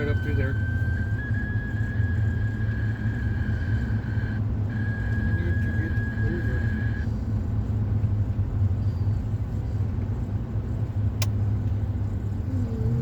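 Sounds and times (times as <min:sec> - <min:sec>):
car road rumble inside cabin: 0:00.0 - 0:13.0.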